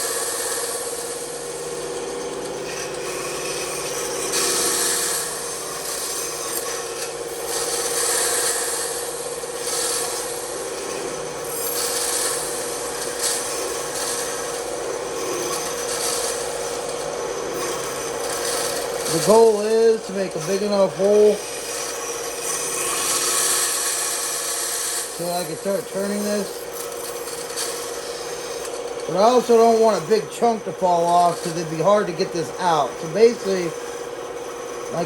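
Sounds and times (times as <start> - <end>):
bandsaw humming: 0.0 - 35.0
saw blade rasping through wood: 0.0 - 35.0.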